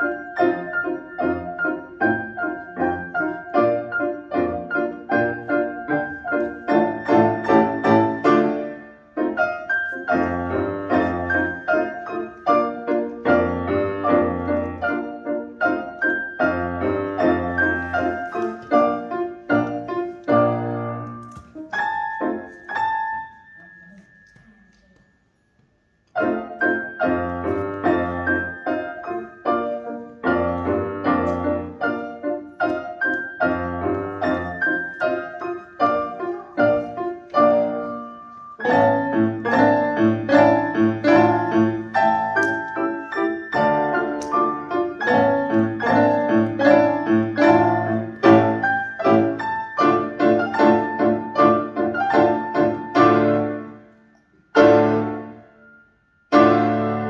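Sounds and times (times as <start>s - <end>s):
piano playing: 0.0s - 57.0s.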